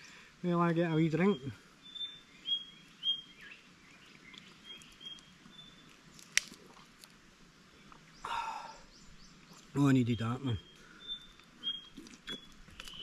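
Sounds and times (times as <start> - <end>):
birds chirping: 0.0 - 6.1, 7.5 - 13.0.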